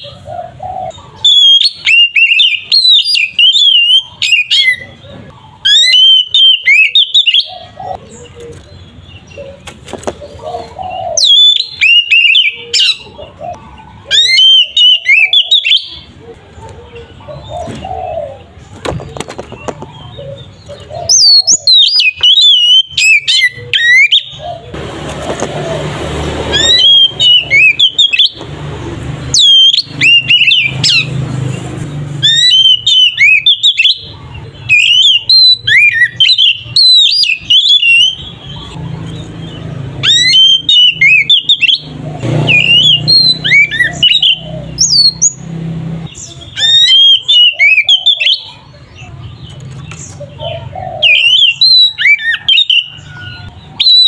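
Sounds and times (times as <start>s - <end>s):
bird singing whistles and chatter: 1.0s - 9.7s, 10.8s - 13.2s, 14.1s - 16.2s, 17.1s - 24.6s, 26.5s - 28.4s, 29.3s - 31.2s, 32.1s - 45.5s, 46.1s - 54.0s.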